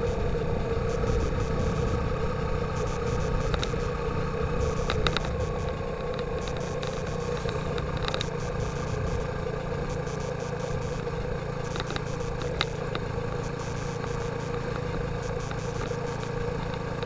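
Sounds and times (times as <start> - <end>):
motorcycle engine running: 0.0 - 17.0
road and wind noise: 0.0 - 17.0
sharp ticks: 0.6 - 17.0.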